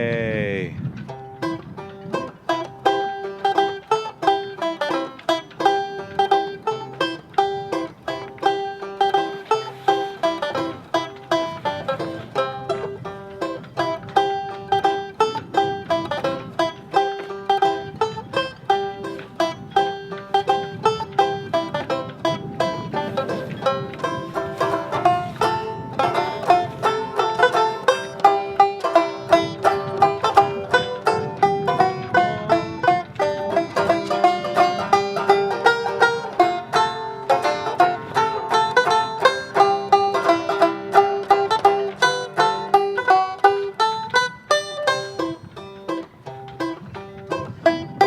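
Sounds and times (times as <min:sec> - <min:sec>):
banjo tune picked quickly: 0:01.0 - 0:48.0.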